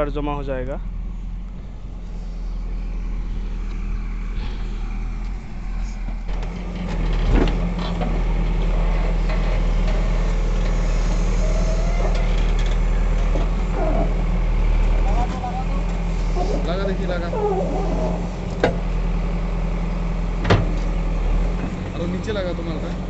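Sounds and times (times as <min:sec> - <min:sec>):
diesel engine under load: 0:00.0 - 0:23.0.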